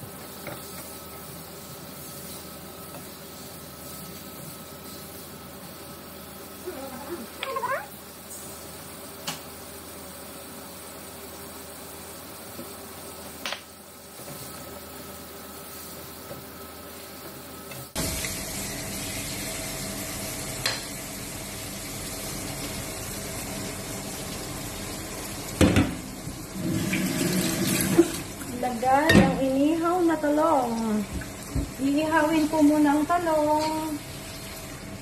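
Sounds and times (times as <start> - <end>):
food sizzling in a pan: 0.0 - 35.0.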